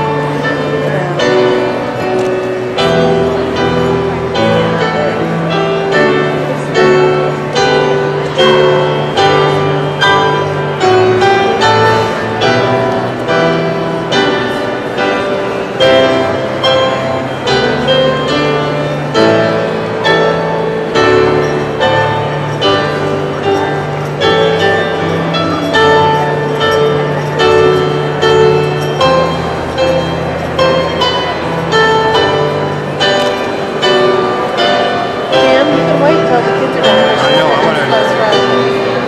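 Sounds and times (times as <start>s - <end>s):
piano music: 0.0s - 39.0s.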